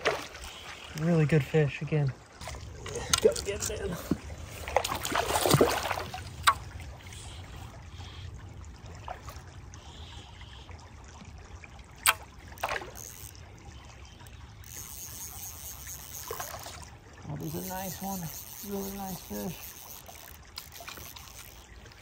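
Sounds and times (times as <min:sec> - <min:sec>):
river water trickling: 0:00.0 - 0:22.0.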